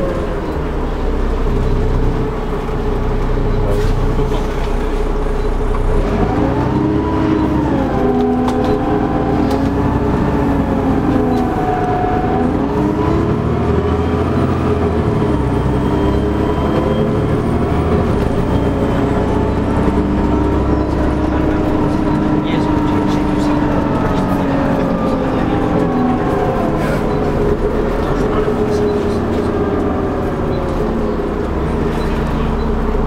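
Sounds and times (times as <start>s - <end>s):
bus engine drone with whine: 0.0s - 33.0s.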